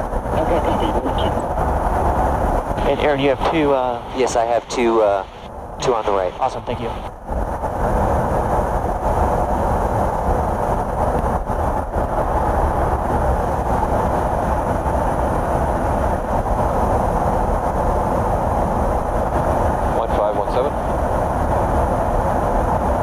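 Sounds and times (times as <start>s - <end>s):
aircraft engine drone: 0.0s - 23.0s.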